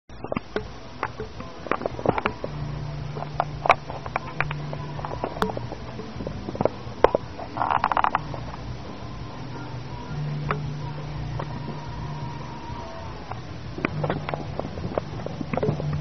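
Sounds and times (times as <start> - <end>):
low hum: 0.1 - 16.0
rapid rattling: 0.1 - 16.0.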